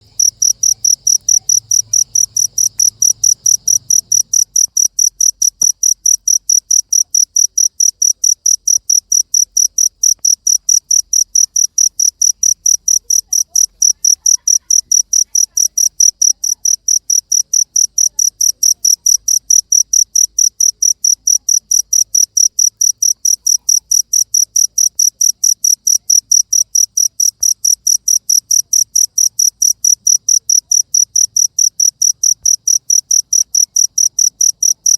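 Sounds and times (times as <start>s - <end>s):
cricket chirping: 0.0s - 34.9s.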